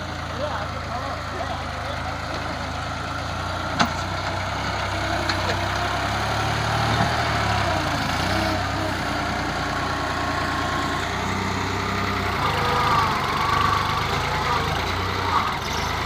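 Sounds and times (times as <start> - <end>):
diesel tractor engine idling: 0.0 - 16.0.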